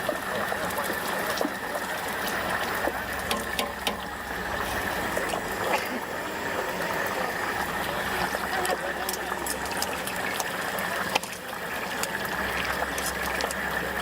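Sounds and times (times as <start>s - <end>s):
hot oil bubbling in fryer: 0.0s - 14.0s.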